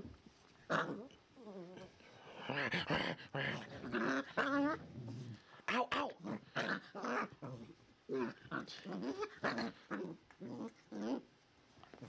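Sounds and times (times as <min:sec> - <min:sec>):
puppies growling and yapping: 0:00.7 - 0:11.4.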